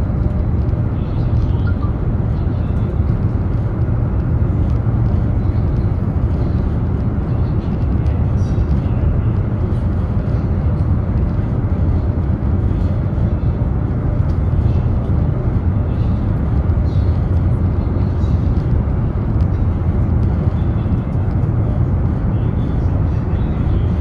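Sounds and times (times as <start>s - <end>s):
train cabin rumble: 0.0s - 24.0s.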